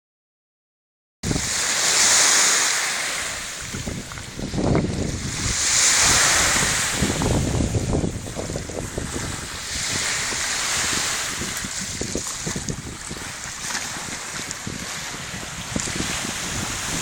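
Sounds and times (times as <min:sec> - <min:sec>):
wind buffeting microphone: 0:01.2 - 0:02.4, 0:03.2 - 0:17.0
surf breaking on beach: 0:01.2 - 0:17.0.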